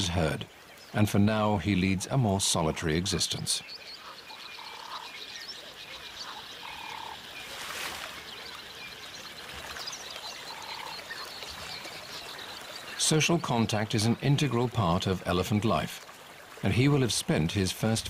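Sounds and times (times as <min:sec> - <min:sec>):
faint riverside ambience: 0:00.0 - 0:18.0.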